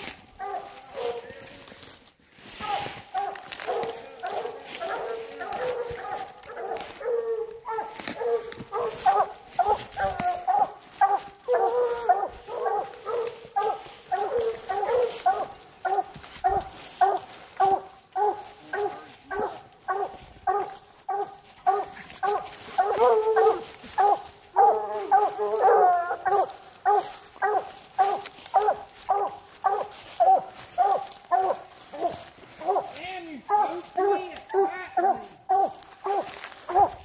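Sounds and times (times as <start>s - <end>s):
hounds barking: 0.0s - 1.7s, 2.6s - 37.0s
hounds bawling: 0.3s - 1.3s, 2.6s - 37.0s.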